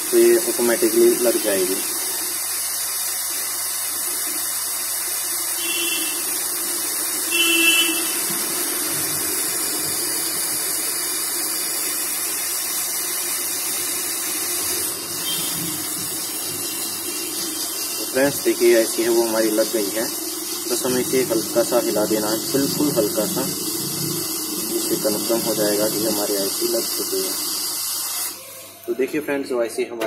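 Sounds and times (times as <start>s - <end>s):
hot air gun hissing: 0.0s - 28.6s.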